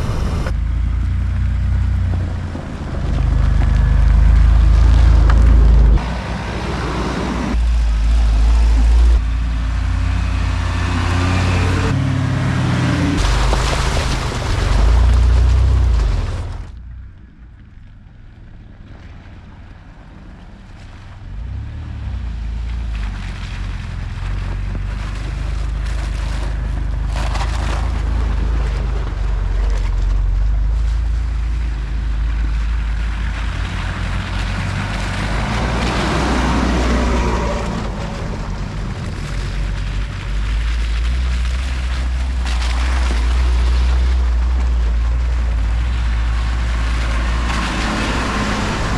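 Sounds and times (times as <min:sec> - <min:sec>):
truck engine rumble: 0:00.0 - 0:48.9.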